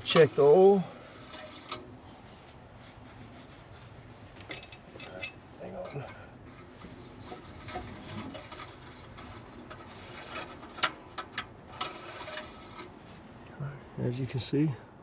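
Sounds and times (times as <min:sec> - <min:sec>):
dipstick rubbing and handling: 0:00.0 - 0:13.2.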